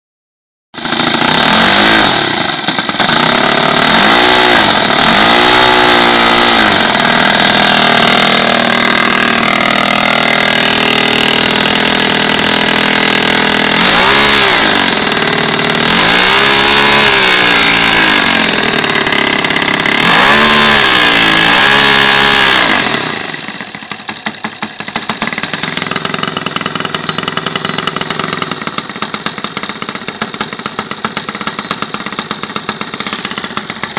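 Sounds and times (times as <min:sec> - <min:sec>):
model airplane engine revving: 0:00.8 - 0:33.9.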